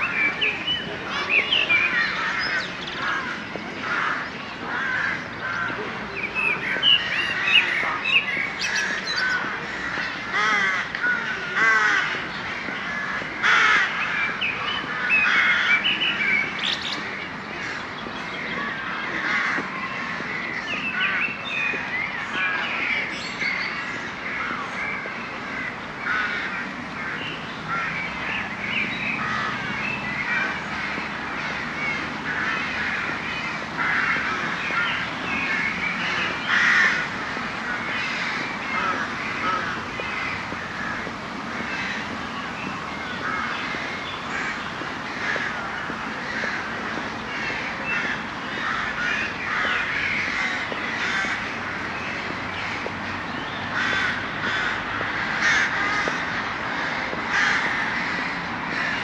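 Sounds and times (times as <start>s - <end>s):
flock of crows cawing: 0.0s - 59.0s.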